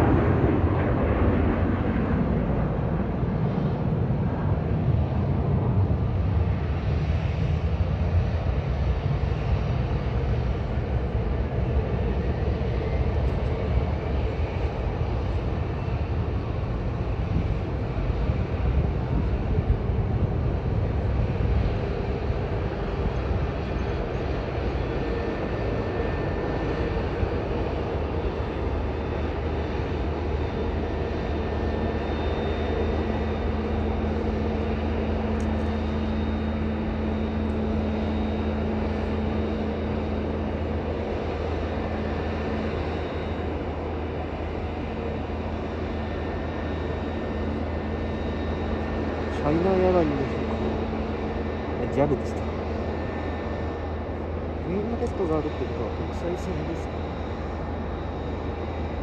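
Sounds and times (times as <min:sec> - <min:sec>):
distant jet engines rushing: 0:00.0 - 0:59.0.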